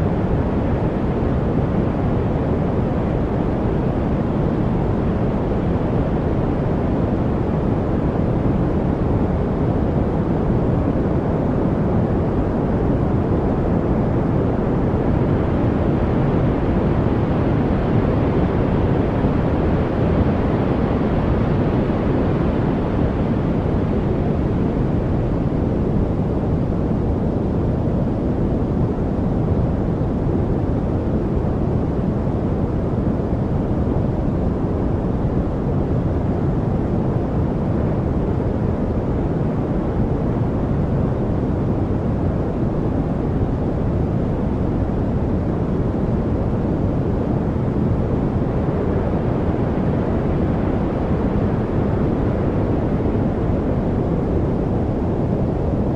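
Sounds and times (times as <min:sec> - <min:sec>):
deep steady rushing noise: 0:00.0 - 0:55.9.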